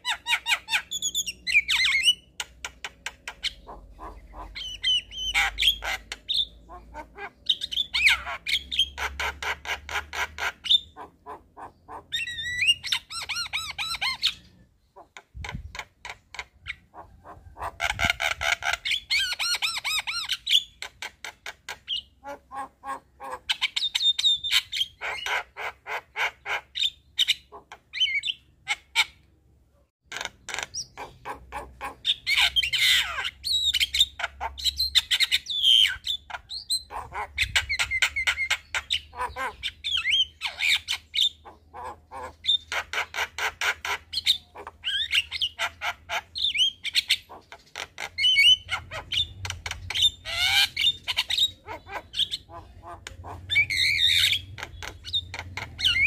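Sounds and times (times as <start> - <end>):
mynas chattering and squawking: 0.0 - 29.2, 30.1 - 56.0.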